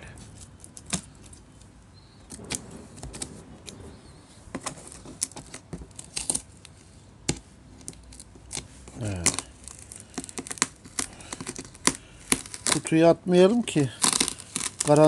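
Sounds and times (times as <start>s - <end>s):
tape and cardboard rustling: 0.0s - 15.0s.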